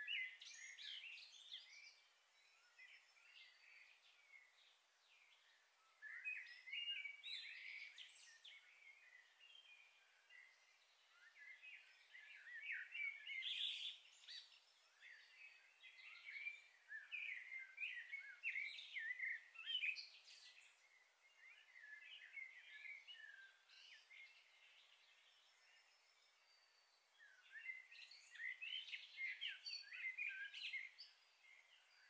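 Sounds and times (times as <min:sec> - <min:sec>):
faint chirping of small birds: 0:00.0 - 0:32.0.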